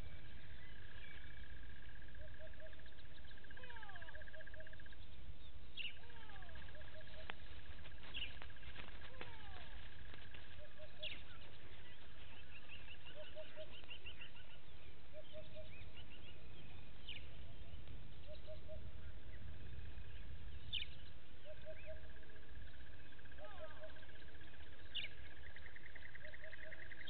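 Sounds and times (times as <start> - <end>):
constant low rumble: 0.0 - 27.0
high bird chirps: 0.0 - 27.0.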